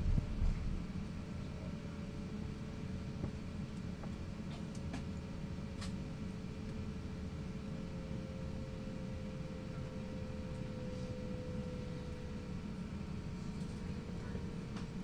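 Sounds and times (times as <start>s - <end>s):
aircraft cabin rumble and hiss: 0.0s - 15.0s.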